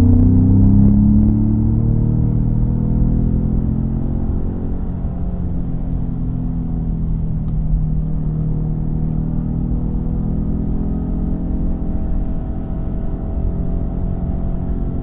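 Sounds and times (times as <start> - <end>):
pickup truck exhaust rumble: 0.0 - 15.0.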